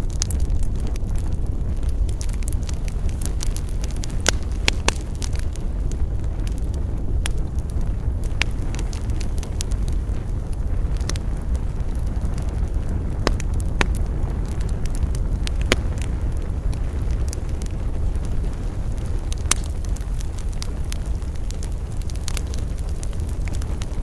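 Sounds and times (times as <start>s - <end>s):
rumble of fire flames: 0.0s - 24.0s
wood crackling and popping: 0.0s - 24.0s.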